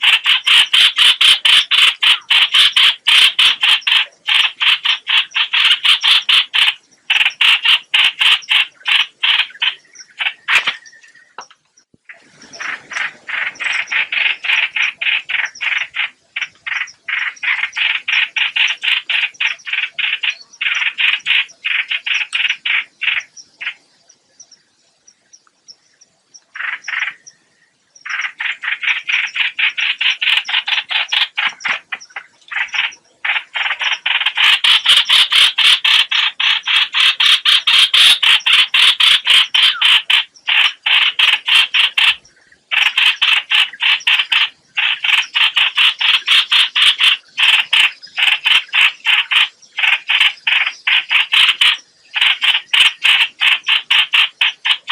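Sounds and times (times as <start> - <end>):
bird call harsh repeated notes: 0.0 - 23.9, 26.5 - 27.4, 28.0 - 54.9.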